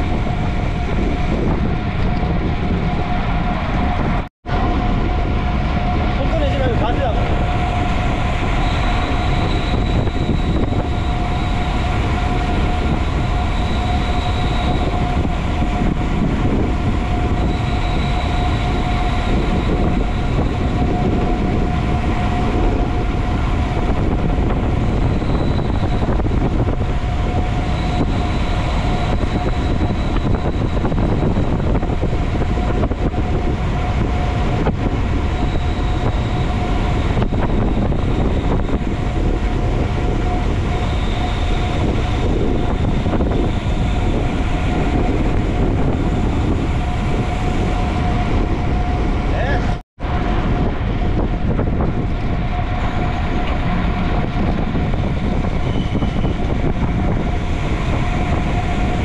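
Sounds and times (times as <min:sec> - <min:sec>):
bicycle tyre hum on road: 0:00.0 - 0:59.0
faint high whine: 0:00.0 - 0:59.0
wind rush on microphone: 0:00.0 - 0:59.0.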